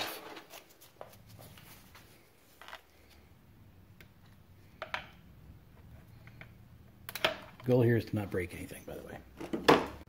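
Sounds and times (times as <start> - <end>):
faint low hum: 1.0 - 9.4.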